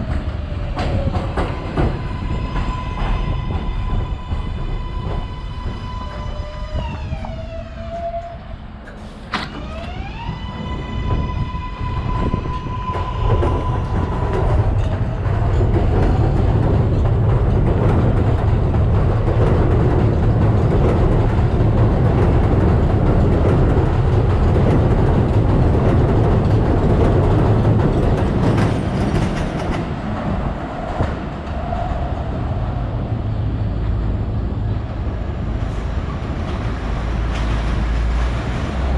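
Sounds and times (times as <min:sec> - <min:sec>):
subway train rumbling on track: 0:00.0 - 0:38.9
train propulsion whine: 0:00.0 - 0:38.9.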